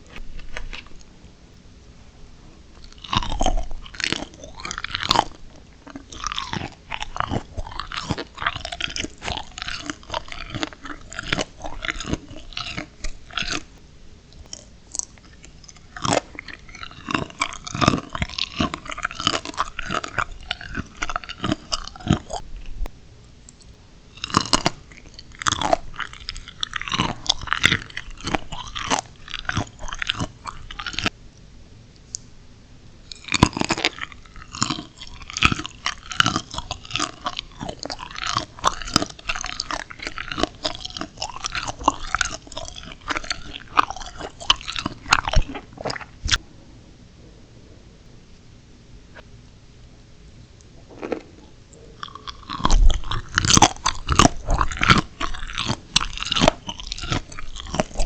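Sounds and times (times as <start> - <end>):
chewing crunchy shrimp: 2.8 - 22.8, 23.5 - 31.2, 33.1 - 46.4, 50.6 - 58.0.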